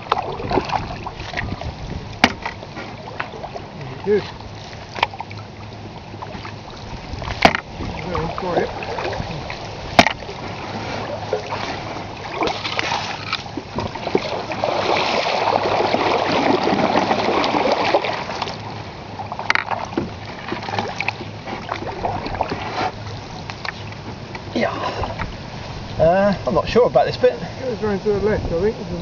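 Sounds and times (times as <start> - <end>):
water splashing against canoe hull: 0.0 - 26.6
canoe rustling through reeds: 0.0 - 26.7.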